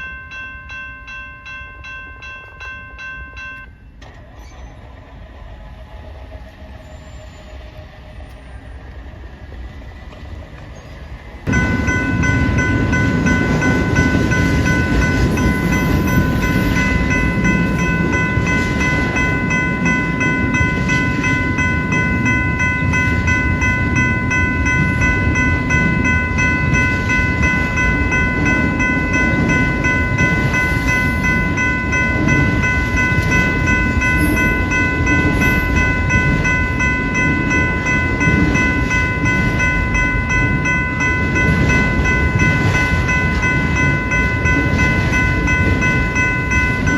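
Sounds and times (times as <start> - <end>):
crossing bell ringing: 0.0 - 4.9, 6.2 - 46.9
freight train rumbling past: 0.0 - 46.9.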